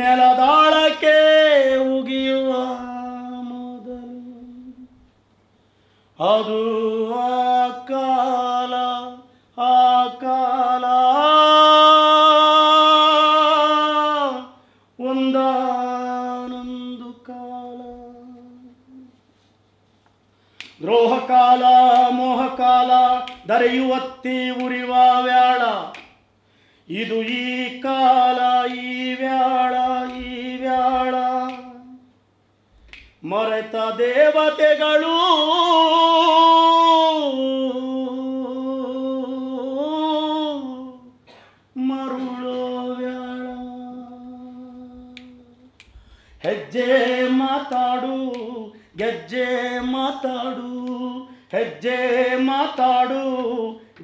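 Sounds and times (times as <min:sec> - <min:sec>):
man singing unaccompanied: 0:00.0 - 0:05.1, 0:06.2 - 0:19.2, 0:20.8 - 0:26.2, 0:26.8 - 0:32.2, 0:33.0 - 0:54.0.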